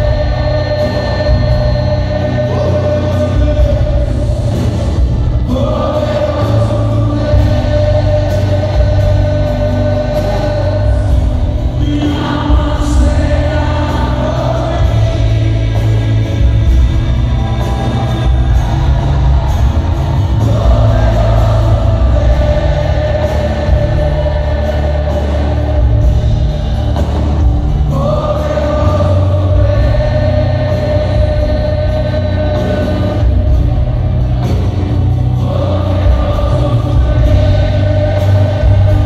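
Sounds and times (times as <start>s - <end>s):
acoustic guitar: 0.0s - 39.0s
congregation singing along: 0.0s - 39.0s
heavy bass: 0.0s - 39.0s
person singing: 0.0s - 39.0s.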